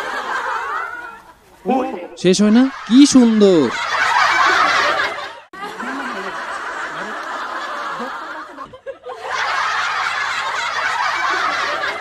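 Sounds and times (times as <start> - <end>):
audience laughing: 0.0 - 1.6, 2.4 - 12.0.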